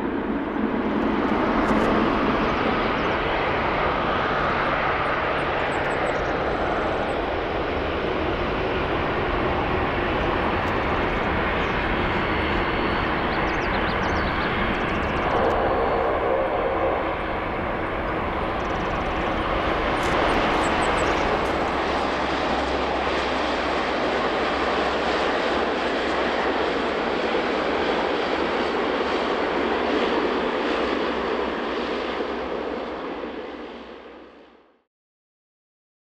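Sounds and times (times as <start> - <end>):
jet engines running: 0.0 - 34.3.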